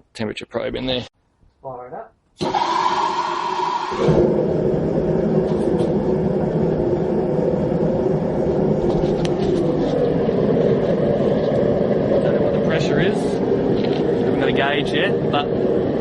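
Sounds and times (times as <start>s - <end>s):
gas forge burners roaring: 2.4s - 16.0s.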